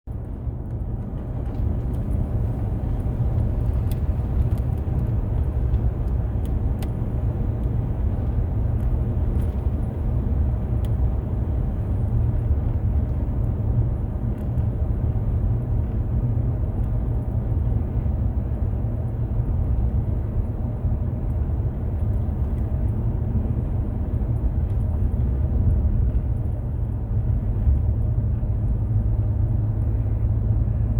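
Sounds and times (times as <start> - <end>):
pickup truck driving: 0.1 - 30.9.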